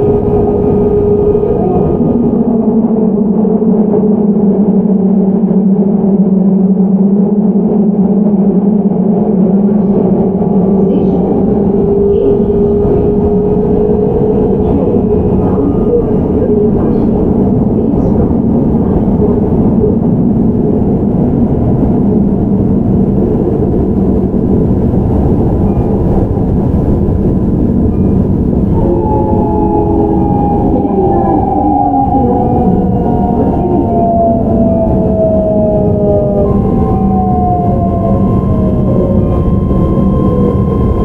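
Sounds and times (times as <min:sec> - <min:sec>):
train wheel and rail rumble: 0:00.0 - 0:41.0.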